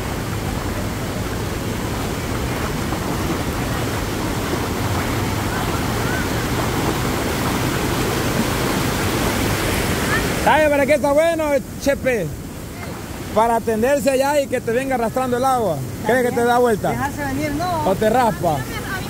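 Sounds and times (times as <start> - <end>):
flooded river rushing: 0.0 - 19.0.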